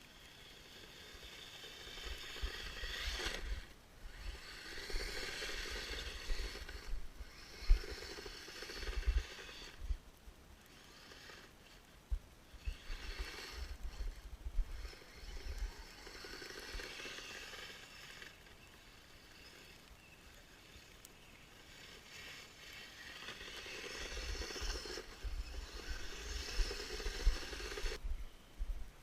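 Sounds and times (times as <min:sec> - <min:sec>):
electric motor whining: 0:00.0 - 0:10.0, 0:10.6 - 0:28.0.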